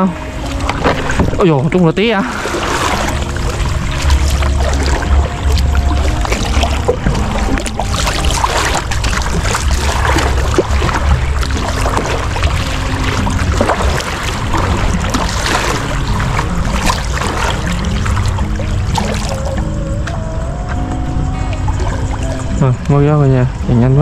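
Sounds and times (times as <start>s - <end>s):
steady low rumble: 0.0s - 24.0s
water sloshing and splashing: 0.0s - 24.0s.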